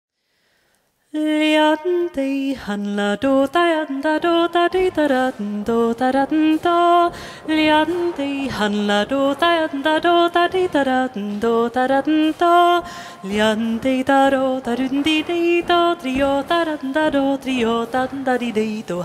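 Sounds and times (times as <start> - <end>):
woman singing unaccompanied: 1.1 - 19.0.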